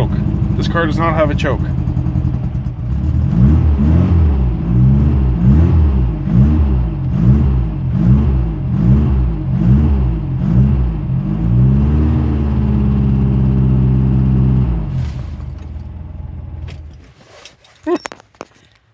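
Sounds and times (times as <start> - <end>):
car engine revving and idling: 0.0 - 17.1.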